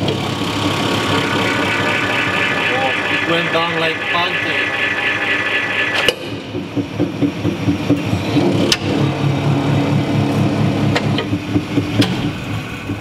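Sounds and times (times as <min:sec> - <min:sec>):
hydraulic pump humming: 0:00.0 - 0:13.0.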